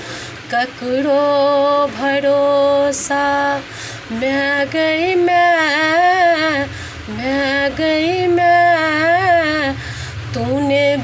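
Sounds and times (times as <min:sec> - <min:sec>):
woman singing unaccompanied: 0:00.4 - 0:11.0.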